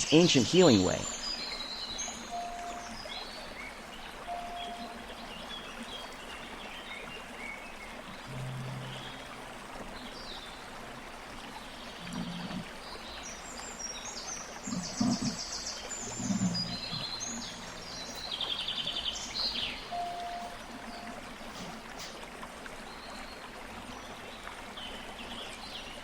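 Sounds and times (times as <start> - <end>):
birds chirping and trilling: 0.0 - 26.0
running water: 0.0 - 26.0.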